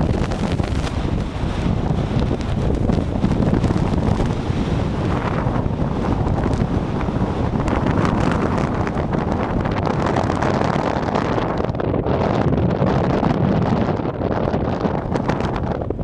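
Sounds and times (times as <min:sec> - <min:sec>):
snowstorm wind blowing hard: 0:00.0 - 0:16.0.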